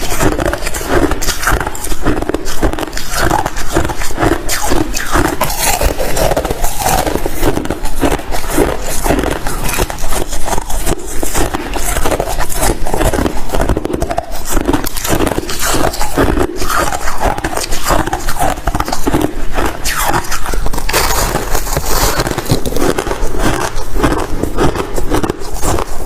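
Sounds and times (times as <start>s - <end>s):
chewing and crunching ice: 0.0s - 26.0s.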